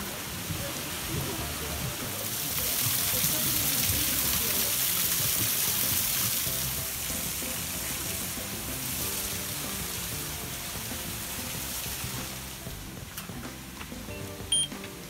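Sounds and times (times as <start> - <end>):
faint music: 0.0 - 15.0
waterfall hissing: 0.0 - 15.0.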